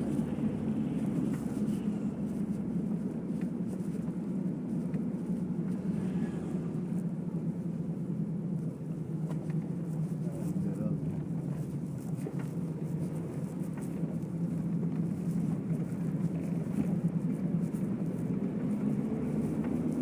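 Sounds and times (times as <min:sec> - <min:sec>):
vehicle road noise rumble: 0:00.0 - 0:20.0.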